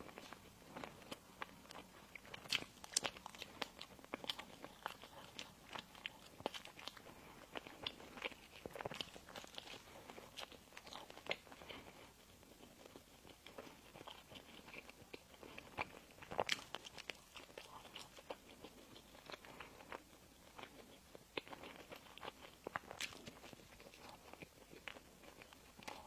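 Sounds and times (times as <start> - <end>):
crunching and chewing pastry: 0.0 - 26.0.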